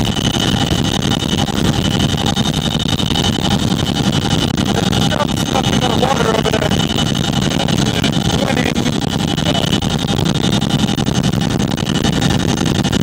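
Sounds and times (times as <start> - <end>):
helicopter cabin noise: 0.0 - 13.0
high engine whine: 0.0 - 13.0.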